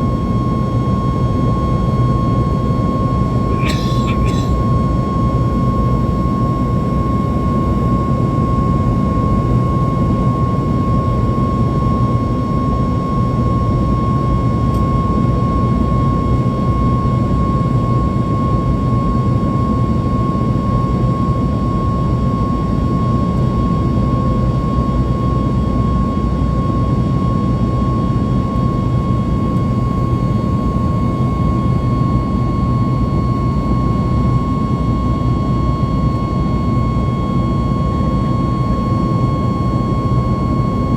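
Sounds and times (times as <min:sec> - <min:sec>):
airplane cabin engine rush: 0:00.0 - 0:40.9.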